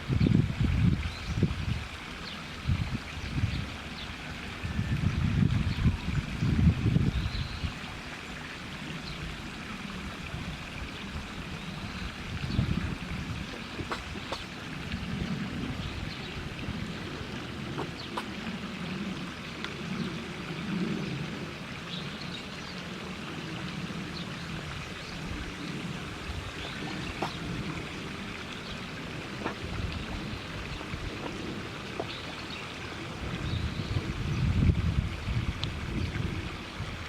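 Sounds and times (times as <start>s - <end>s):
running water trickling: 0.0s - 37.0s.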